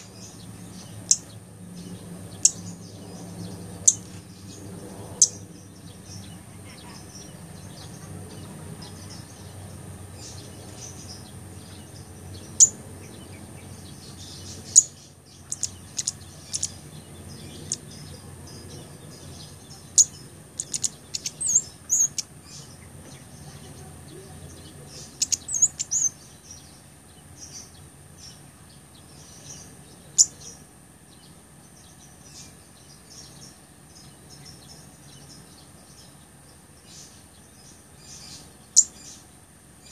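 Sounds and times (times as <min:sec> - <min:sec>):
flowerpecker chips and twittering: 0:00.0 - 0:39.9.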